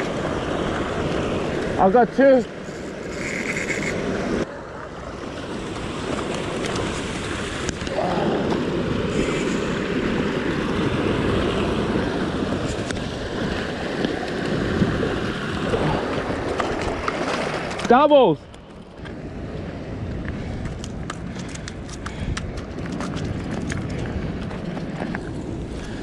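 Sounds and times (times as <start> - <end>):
ocean swell breaking on rocks: 0.0 - 26.0
wind buffeting microphone: 0.0 - 26.0.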